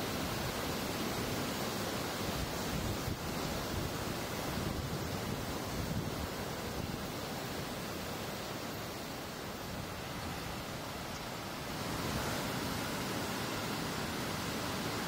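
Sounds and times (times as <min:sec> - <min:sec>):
ocean surf breaking on shore: 0:00.0 - 0:15.0.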